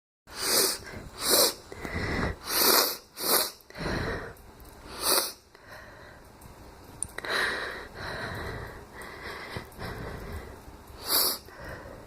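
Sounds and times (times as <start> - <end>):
soft breathing: 0.3 - 2.8, 3.6 - 6.4, 7.2 - 12.0.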